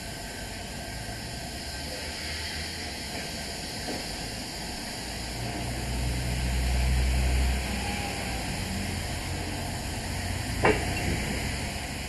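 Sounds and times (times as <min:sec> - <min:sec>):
locomotive hiss: 0:00.0 - 0:12.0
locomotive low rumble: 0:00.0 - 0:12.0.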